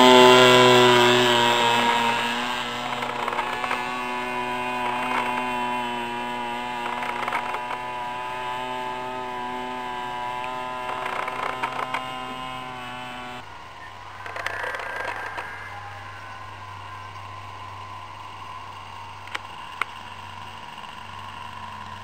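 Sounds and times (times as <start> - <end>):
model plane engine in flight: 0.0 - 22.0.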